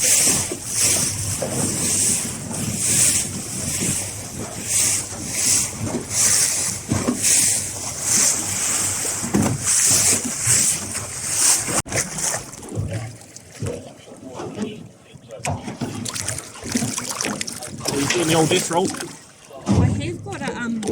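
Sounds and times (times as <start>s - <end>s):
sea water splashing against boat: 0.0s - 20.9s
wind: 0.0s - 20.9s.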